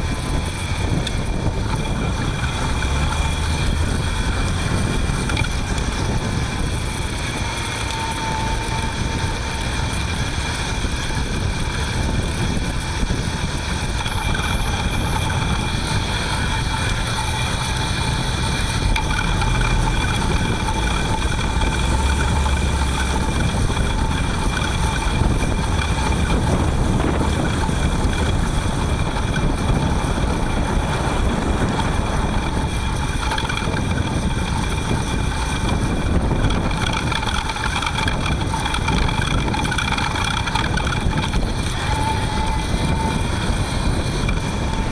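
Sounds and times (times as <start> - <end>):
electric bicycle motor whining: 0.0 - 44.9
wind and road noise rumble: 0.0 - 44.9.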